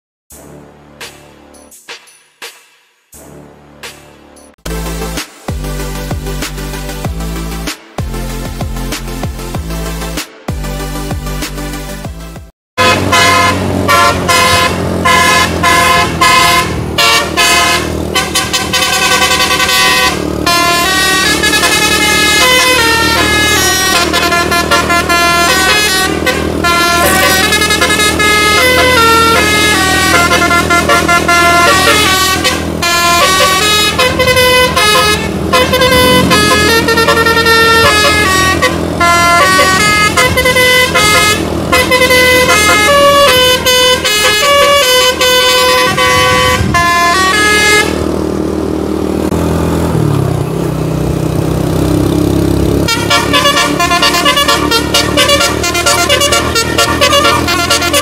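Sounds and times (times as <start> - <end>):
bus engine running: 0.3 - 1.8, 3.2 - 58.0
multi-tone bus horn tune: 4.7 - 58.0.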